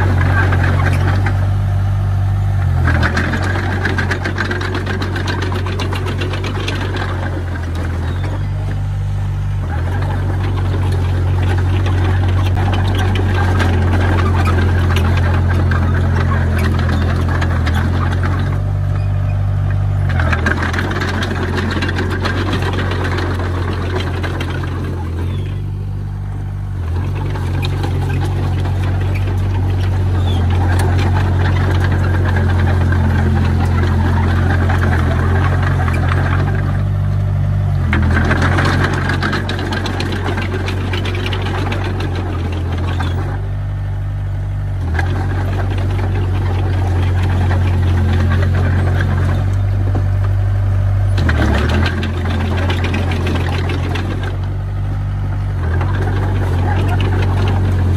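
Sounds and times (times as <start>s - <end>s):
bulldozer diesel engine clattering: 0.0s - 57.9s.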